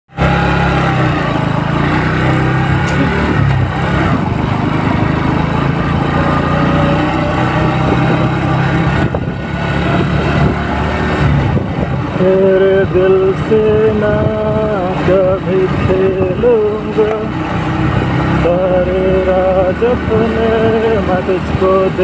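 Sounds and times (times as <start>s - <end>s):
motorcycle engine running: 0.1s - 22.0s.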